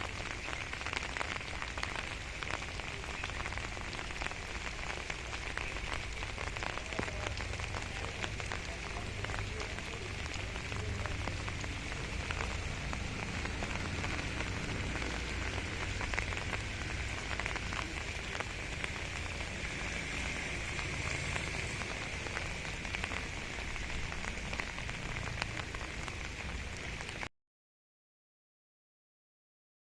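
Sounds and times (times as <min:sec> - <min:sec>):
heavy rain falling: 0:00.0 - 0:27.3.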